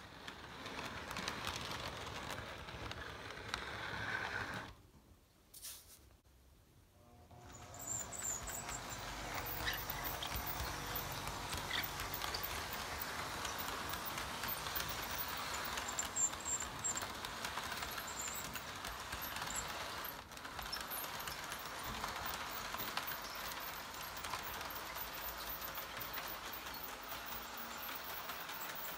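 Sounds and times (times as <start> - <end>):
model train motor: 0.0 - 4.8, 7.1 - 28.9
model train wheels rattling on rails: 0.0 - 4.8, 7.3 - 28.9.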